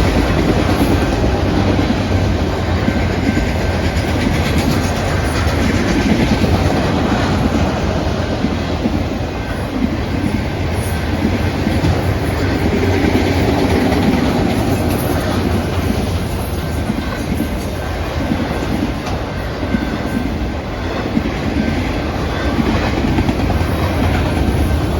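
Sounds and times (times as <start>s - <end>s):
freight train wheels on rails: 0.0s - 24.9s.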